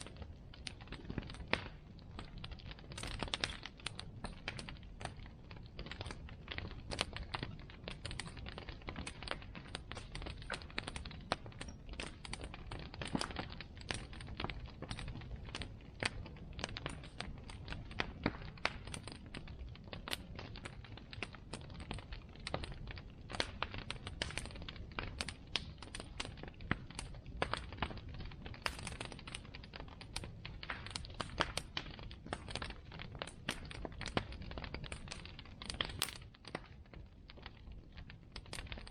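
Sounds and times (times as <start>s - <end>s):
wood crackling and popping: 0.0s - 38.9s.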